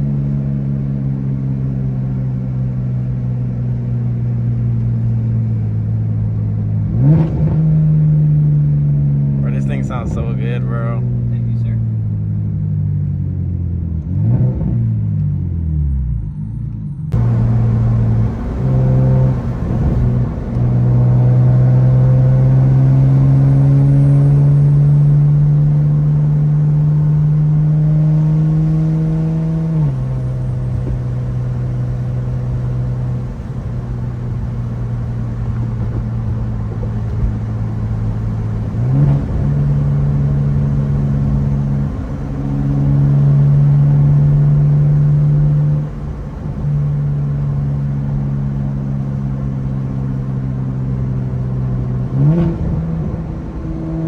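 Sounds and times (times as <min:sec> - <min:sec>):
car engine under load: 0:00.0 - 0:54.0.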